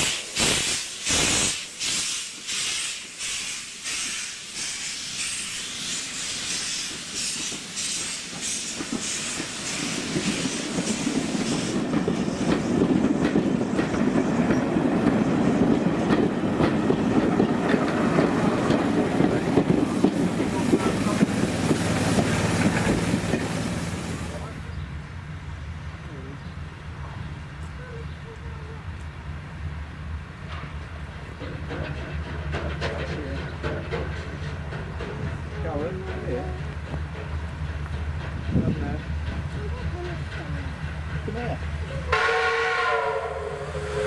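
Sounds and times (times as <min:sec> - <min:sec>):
steam locomotive chuffing: 0:00.0 - 0:25.0, 0:30.0 - 0:44.0
train wheels rumbling on rails: 0:00.0 - 0:44.0.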